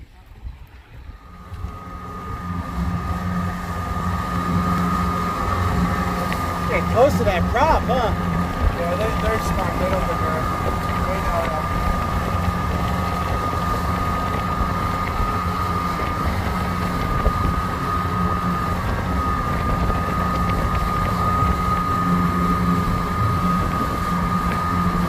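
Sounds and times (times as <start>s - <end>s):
boat motor running: 0.0s - 25.0s
high whine: 0.0s - 25.0s
rush of wind and water: 0.0s - 25.0s.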